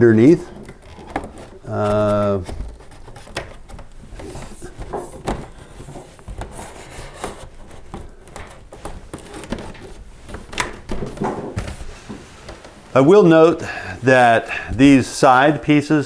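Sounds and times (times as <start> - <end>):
cardboard rubbing and scraping: 0.3 - 15.8.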